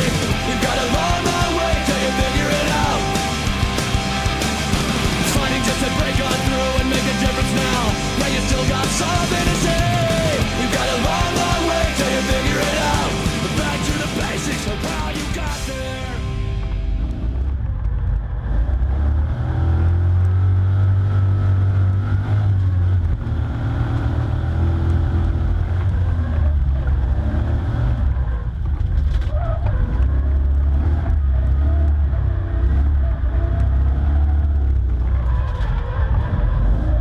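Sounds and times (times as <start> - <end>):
engine revving with low rumble: 0.0 - 37.0.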